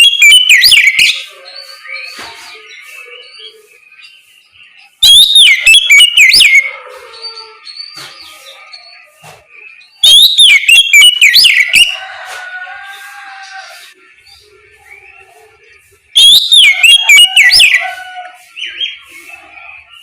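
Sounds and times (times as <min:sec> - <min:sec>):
magpie-robin singing: 0:00.0 - 0:12.0, 0:12.9 - 0:20.0
faint bird chirps and calls: 0:00.0 - 0:20.0.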